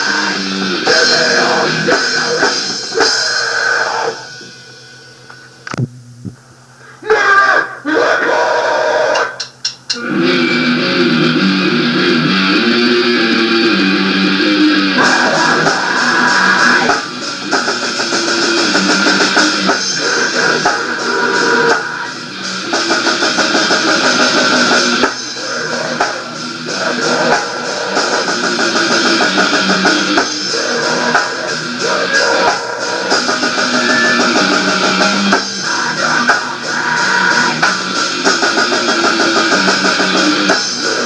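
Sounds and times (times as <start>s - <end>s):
rock guitar riff: 0.0s - 4.4s, 10.0s - 41.0s
drums and band playing: 0.0s - 4.7s, 9.1s - 41.0s.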